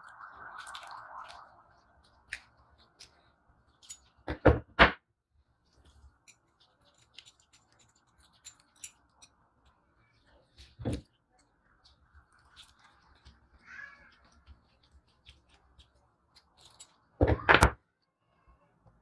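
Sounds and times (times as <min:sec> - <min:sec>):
small metal parts clicking and knocking: 0:00.0 - 0:04.4, 0:05.6 - 0:18.1.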